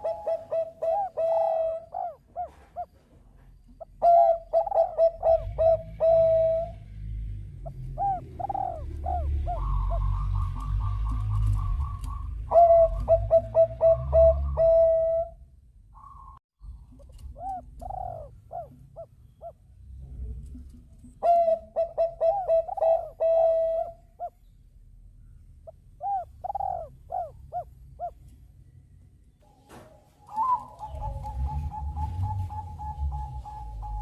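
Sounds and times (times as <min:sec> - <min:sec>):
dove cooing: 0:00.0 - 0:06.9, 0:07.6 - 0:15.4, 0:16.0 - 0:19.6, 0:20.6 - 0:24.4, 0:25.6 - 0:28.3, 0:29.8 - 0:34.0.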